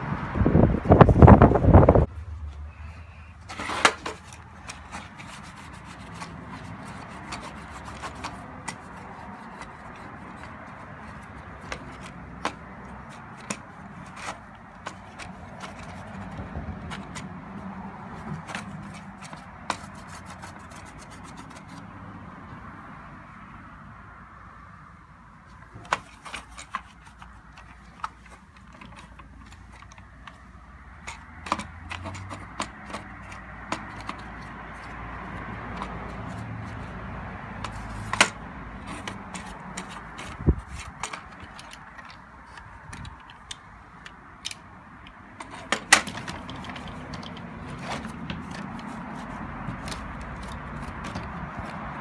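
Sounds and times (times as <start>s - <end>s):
clicks and knocks of parts handled: 3.4s - 21.8s, 25.5s - 52.0s.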